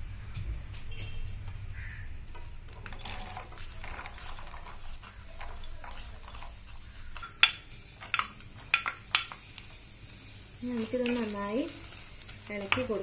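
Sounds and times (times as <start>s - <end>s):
food sizzling and crackling in oil: 2.6s - 13.0s.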